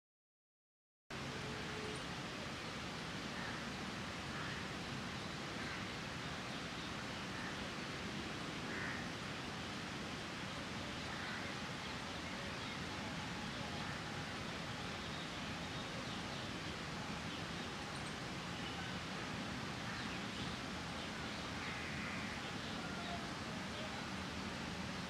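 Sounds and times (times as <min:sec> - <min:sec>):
outdoor background hiss: 0:01.1 - 0:25.0.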